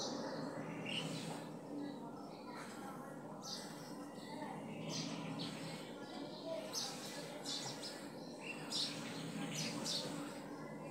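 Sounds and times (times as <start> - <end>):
low background murmur: 0.0 - 10.9.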